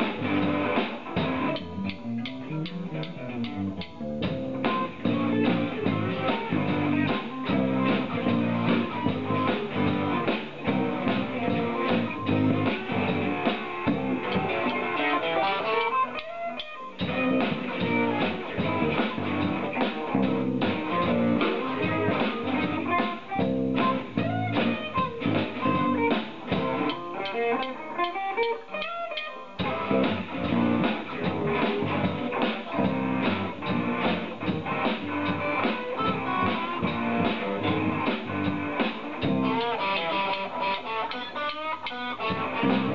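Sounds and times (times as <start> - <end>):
electric guitar: 0.0 - 42.9
rock band playing: 0.0 - 42.9.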